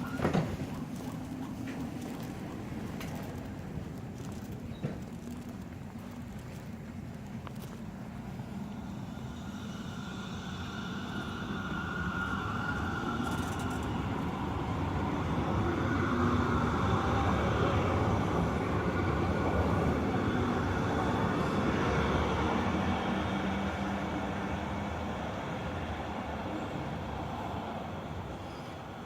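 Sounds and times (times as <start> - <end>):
train running on rails: 0.0 - 29.0.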